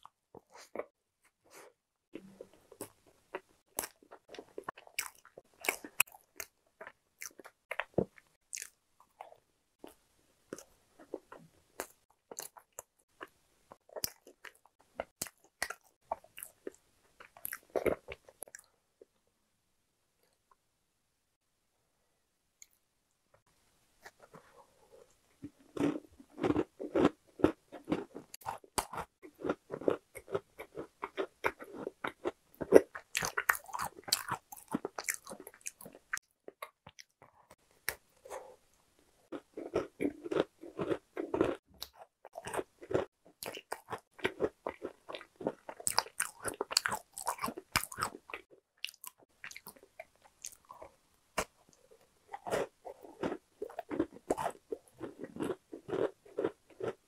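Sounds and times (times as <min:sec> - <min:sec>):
person chewing crunchy pastry: 0:00.0 - 0:18.7, 0:24.0 - 0:57.0.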